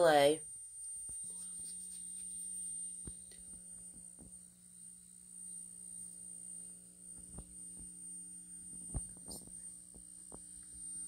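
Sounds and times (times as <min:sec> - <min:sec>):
speaker electrical hum: 0:00.0 - 0:11.0
thin high whine: 0:00.0 - 0:11.0.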